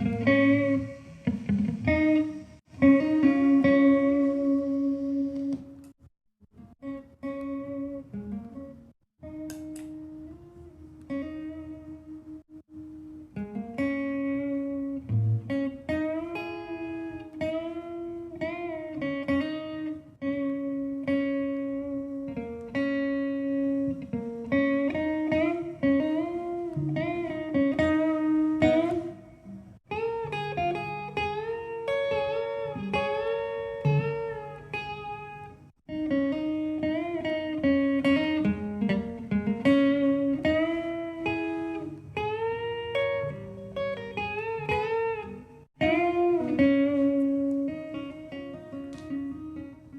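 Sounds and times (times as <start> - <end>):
plucked guitar melody: 0.0 - 49.9.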